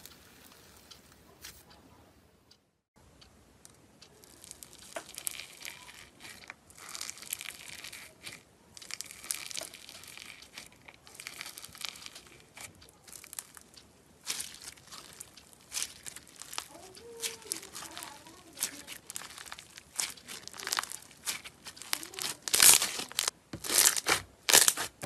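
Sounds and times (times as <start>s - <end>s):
foam bead slime crunching: 0.0s - 1.6s, 4.2s - 25.0s.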